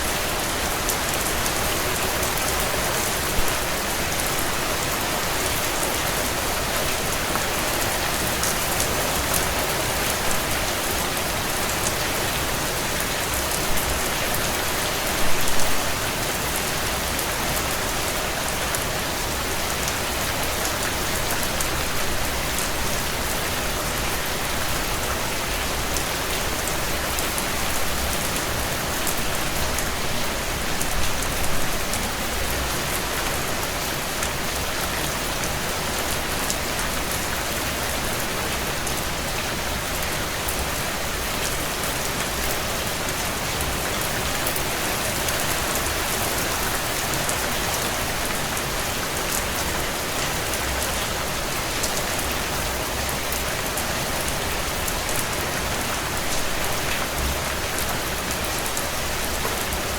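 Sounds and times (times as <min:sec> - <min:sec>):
heavy rain drumming on a tin roof: 0:00.0 - 0:59.9.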